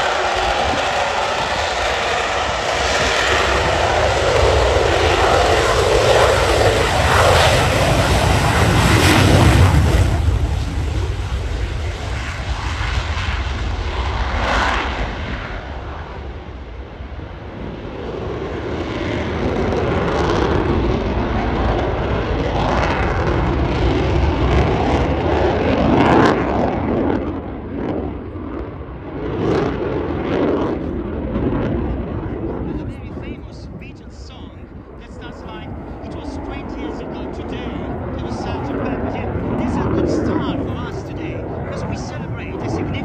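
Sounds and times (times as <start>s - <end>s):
jet fighter engine roar: 0.0s - 43.0s.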